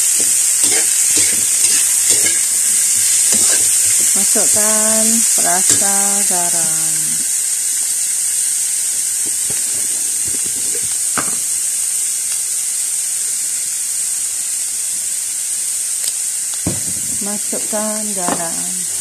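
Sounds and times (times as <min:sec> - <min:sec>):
seeds sizzling in oil: 0:00.0 - 0:19.0.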